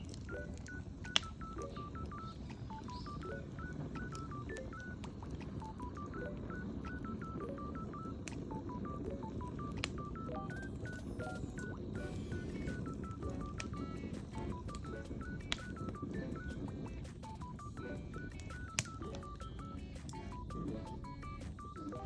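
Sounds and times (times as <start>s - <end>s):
beep-like melody: 0.0s - 22.0s.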